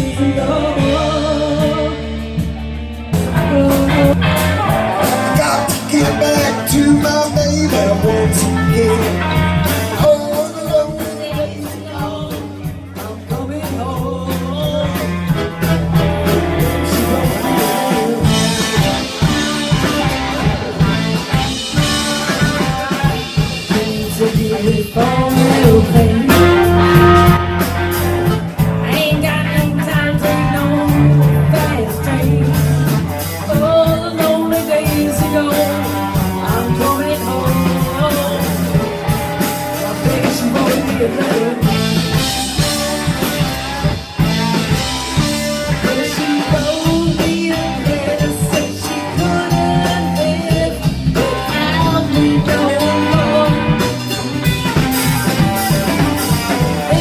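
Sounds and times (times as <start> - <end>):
loud live rock band: 0.0 - 57.0.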